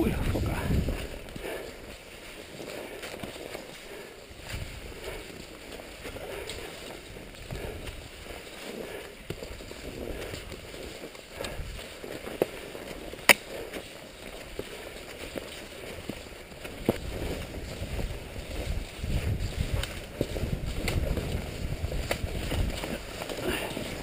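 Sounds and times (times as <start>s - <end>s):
skis swishing over snow: 0.0s - 24.0s.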